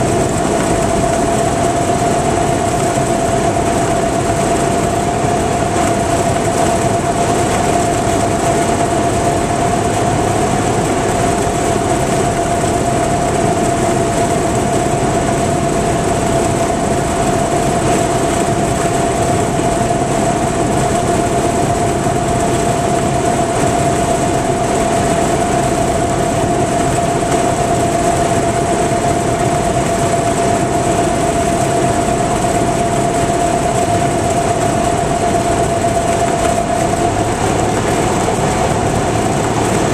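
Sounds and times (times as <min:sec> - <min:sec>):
airplane engine and propeller droning: 0:00.0 - 0:39.9
high-pitched whine: 0:00.0 - 0:39.9.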